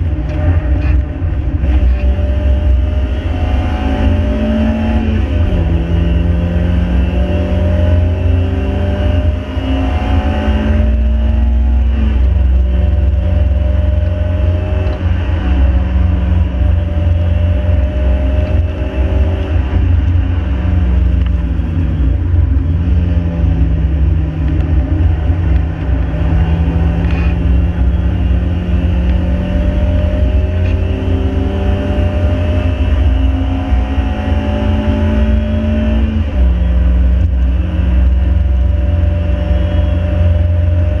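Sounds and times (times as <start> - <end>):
car engine pulling hard: 0.0 - 41.0
road and wind rumble: 0.0 - 41.0.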